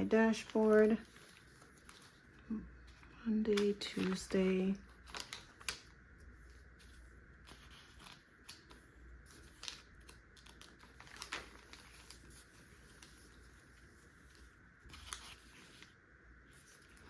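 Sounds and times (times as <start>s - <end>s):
low room hum: 0.0s - 17.0s
paper journal being handled: 0.0s - 17.0s.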